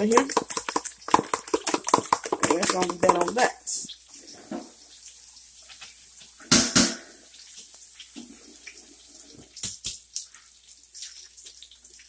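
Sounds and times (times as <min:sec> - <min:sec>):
sausages sizzling in a skillet: 0:00.0 - 0:01.2, 0:02.5 - 0:12.0.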